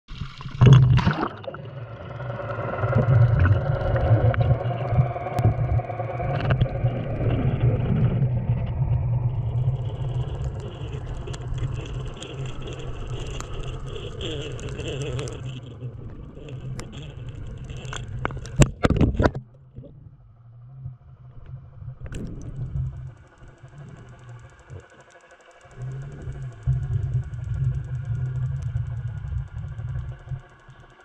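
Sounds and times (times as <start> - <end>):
low hum: 0.1 - 31.0
muffled underwater rushing: 0.1 - 31.0.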